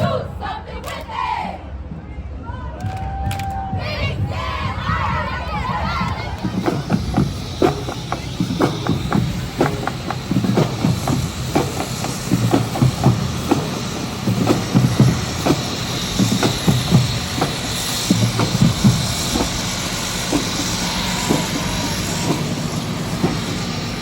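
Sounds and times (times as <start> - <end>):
crowd din: 3.8 - 24.0
low thumps: 4.2 - 24.0.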